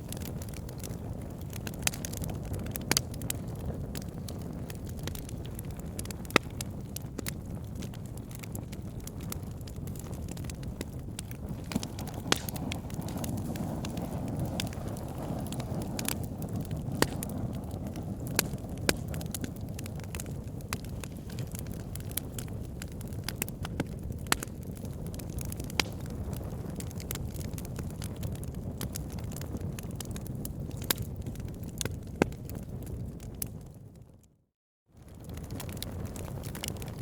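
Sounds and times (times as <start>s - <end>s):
fire flames rushing: 0.0s - 33.7s, 35.0s - 37.0s
logs crackling and popping: 0.0s - 34.0s, 35.0s - 37.0s.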